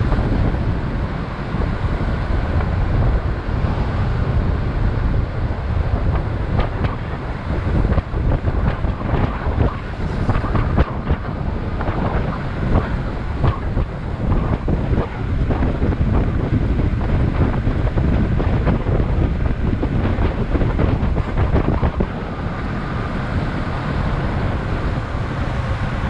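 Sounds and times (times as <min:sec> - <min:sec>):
skateboard wheels rumbling on asphalt: 0:00.0 - 0:26.0
wind buffeting microphone: 0:00.0 - 0:26.0.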